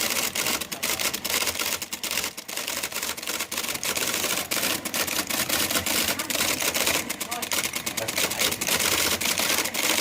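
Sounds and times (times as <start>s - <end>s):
typewriter typing fast: 0.0s - 10.0s.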